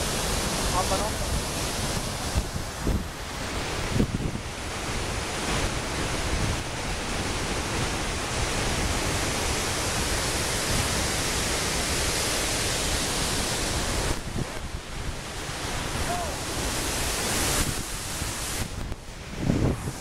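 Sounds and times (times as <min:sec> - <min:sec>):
waterfall rushing: 0:00.0 - 0:20.0
wind buffeting microphone: 0:00.0 - 0:20.0.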